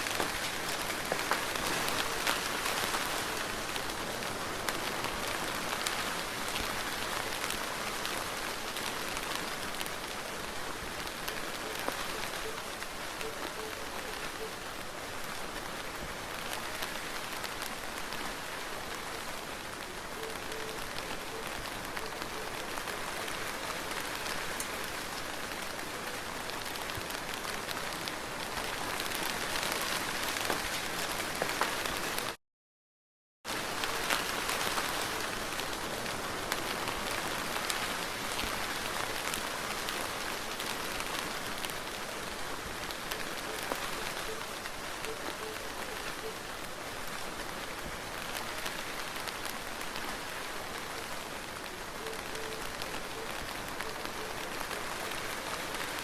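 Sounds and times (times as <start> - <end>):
soft rain falling: 0.0 - 32.4, 33.5 - 56.0.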